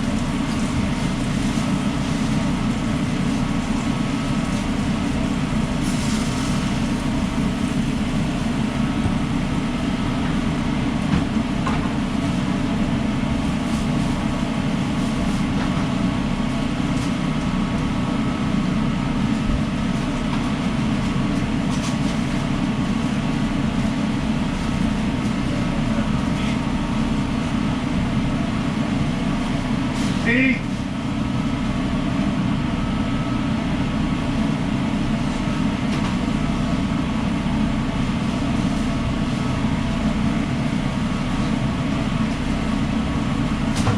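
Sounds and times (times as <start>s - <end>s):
food truck equipment drone: 0.0s - 43.9s.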